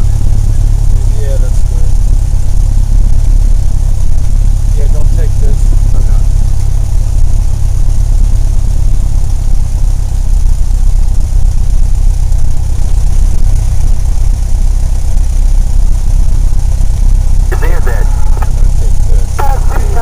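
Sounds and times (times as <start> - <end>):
aircraft engine and propeller drone: 0.0 - 20.0.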